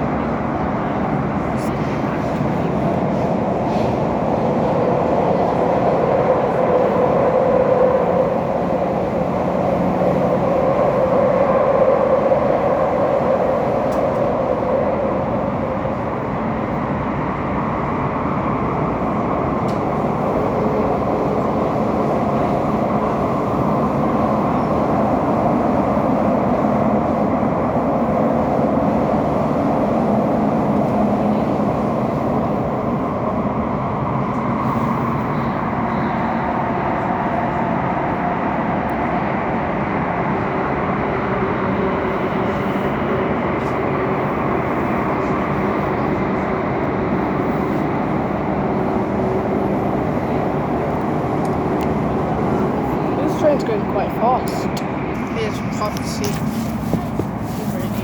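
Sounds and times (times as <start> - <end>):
electric train rumbling: 0.0 - 58.0.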